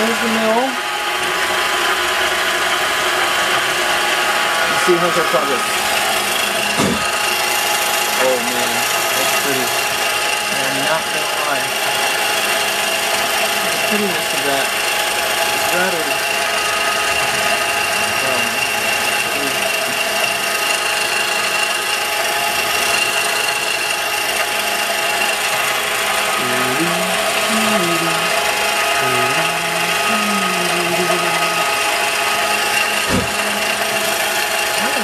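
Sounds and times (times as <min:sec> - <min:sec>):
high spindle whine: 0:00.0 - 0:35.0
milling machine grinding: 0:00.0 - 0:35.0.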